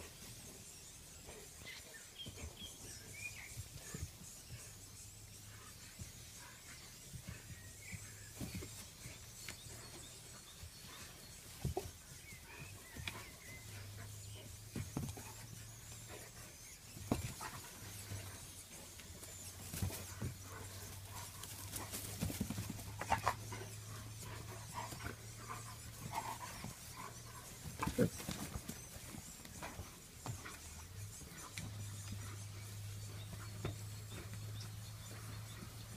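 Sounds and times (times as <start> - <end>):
steady low hum: 0.0 - 35.9
animals fighting with snaps and scuffles: 5.8 - 35.9.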